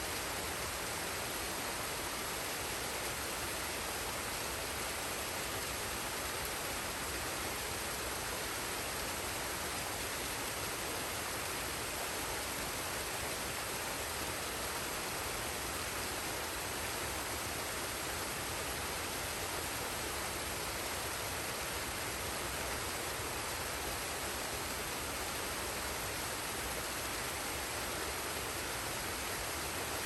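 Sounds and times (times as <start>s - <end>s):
waterfall and stream rushing: 0.0s - 30.0s.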